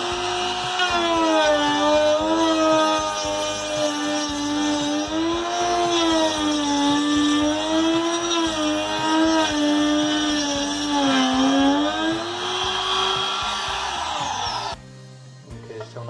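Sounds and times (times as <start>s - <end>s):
router cutting wood: 0.0s - 14.8s.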